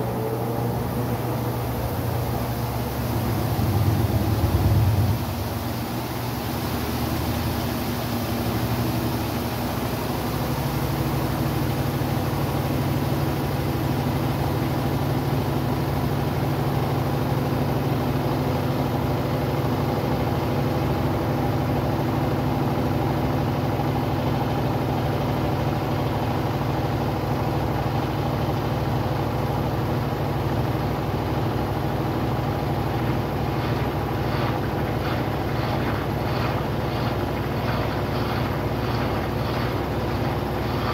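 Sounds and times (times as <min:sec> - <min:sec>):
washing machine motor humming: 0:00.0 - 0:40.9.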